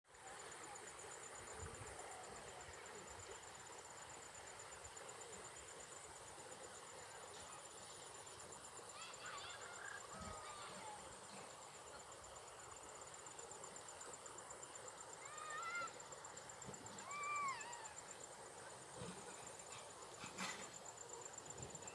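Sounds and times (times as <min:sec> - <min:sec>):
outdoor background hiss: 0:00.0 - 0:21.9
insects trilling: 0:00.2 - 0:21.9.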